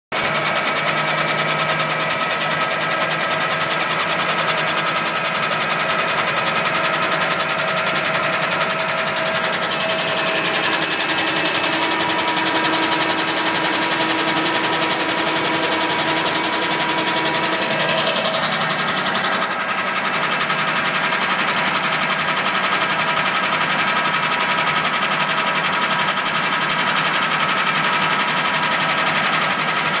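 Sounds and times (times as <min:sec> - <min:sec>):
car engine running: 0:00.1 - 0:30.0
rapid regular engine knocking: 0:00.1 - 0:30.0.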